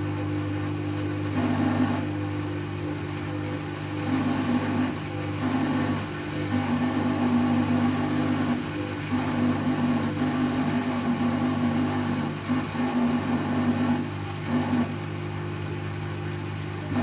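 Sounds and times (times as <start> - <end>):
high motor whine: 0.0 - 17.0
washing machine spin hum: 0.0 - 17.0.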